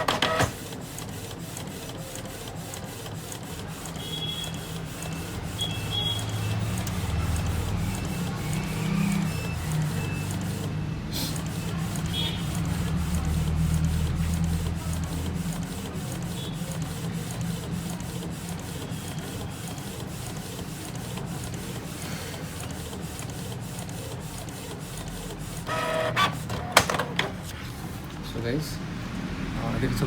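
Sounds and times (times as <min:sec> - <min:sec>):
inkjet printer printing: 0:00.0 - 0:28.7.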